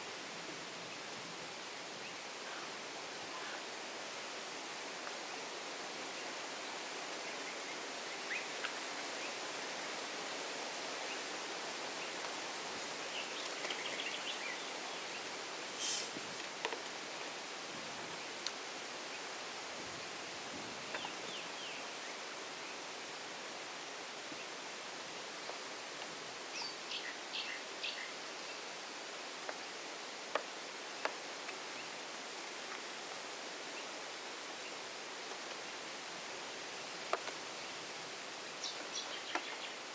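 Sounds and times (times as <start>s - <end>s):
outdoor nature ambience hiss: 0.0s - 39.9s.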